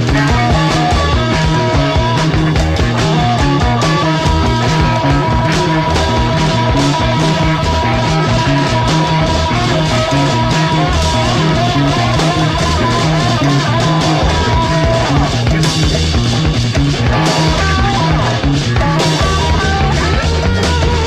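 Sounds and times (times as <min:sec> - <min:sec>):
bass line: 0:00.0 - 0:21.0
drum beat: 0:00.0 - 0:21.0
electric guitar: 0:00.0 - 0:21.0.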